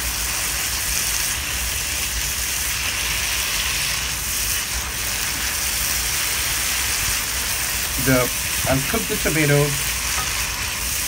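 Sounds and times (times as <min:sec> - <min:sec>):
onions and tomato sizzling in a wok: 0:00.0 - 0:11.0
spatula stirring in a wok: 0:00.0 - 0:11.0.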